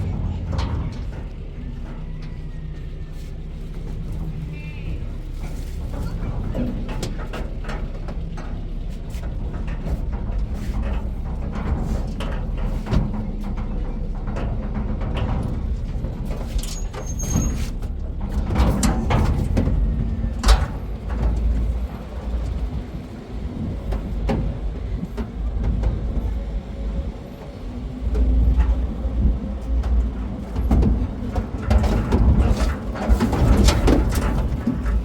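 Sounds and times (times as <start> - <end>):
knocks and rattles: 0.0 - 4.5, 5.1 - 35.0
vehicle engine rumbling: 0.0 - 35.0.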